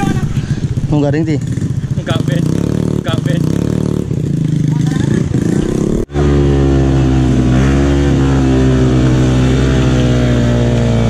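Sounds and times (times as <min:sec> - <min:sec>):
off-road motorcycle engine revving: 0:00.0 - 0:11.0.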